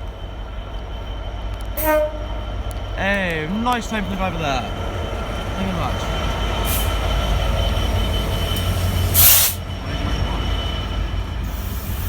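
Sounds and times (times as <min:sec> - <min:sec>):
train wagons rumbling on rails: 0:00.0 - 0:12.0.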